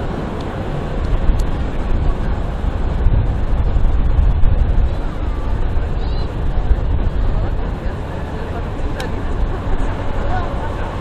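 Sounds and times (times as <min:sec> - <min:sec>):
deep engine rumble: 0:00.0 - 0:11.0
rushing boat wake: 0:00.0 - 0:11.0.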